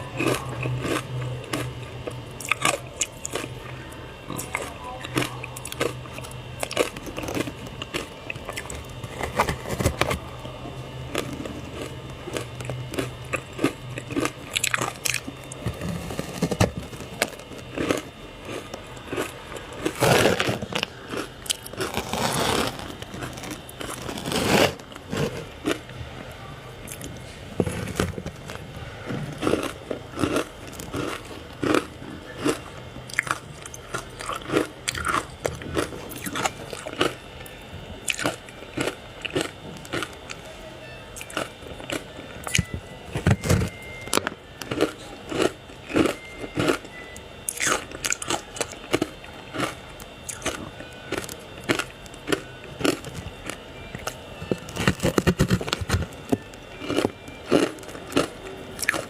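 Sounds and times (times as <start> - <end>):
ice being chewed: 0.0 - 26.0, 26.8 - 40.5, 41.1 - 59.0.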